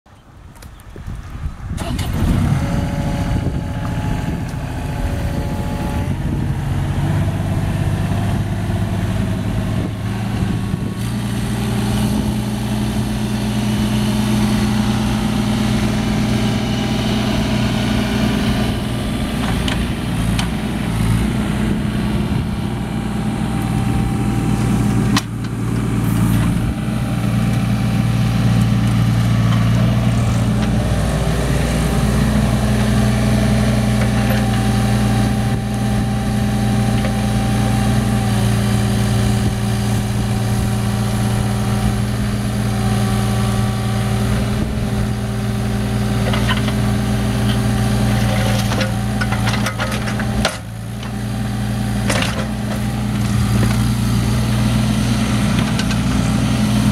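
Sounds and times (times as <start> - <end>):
excavator diesel engine running: 1.2 - 56.9.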